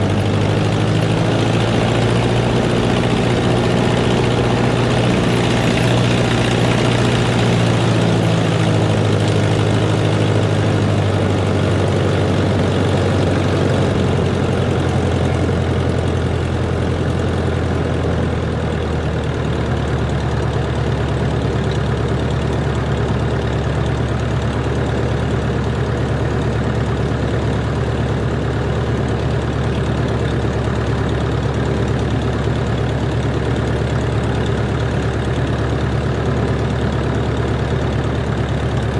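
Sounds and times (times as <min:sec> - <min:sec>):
light plane piston engine and propeller: 0:00.0 - 0:38.9.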